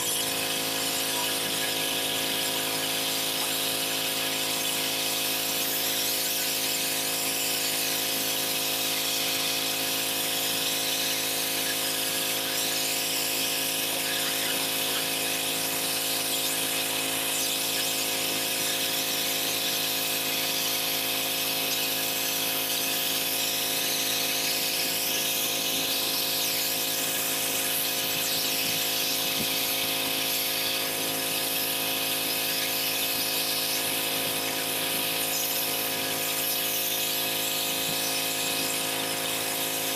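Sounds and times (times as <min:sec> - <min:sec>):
high-pressure water spray hissing: 0:00.0 - 0:39.9
pressure washer hum: 0:00.0 - 0:39.9.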